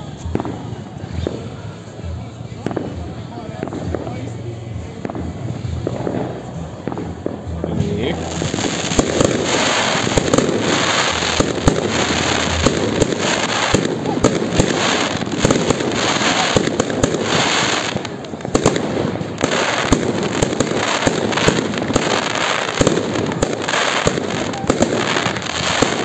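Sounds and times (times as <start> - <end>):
fireworks bursting with bangs: 0.0 - 26.0
fireworks crackling: 0.0 - 26.0.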